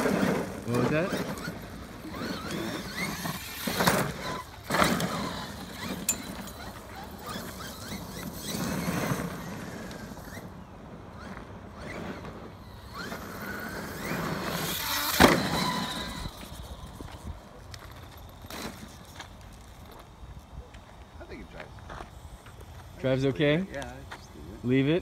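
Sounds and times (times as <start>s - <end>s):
tyres scrabbling on dirt: 0.0s - 10.5s, 11.2s - 23.2s
electric motor whine: 0.0s - 25.0s.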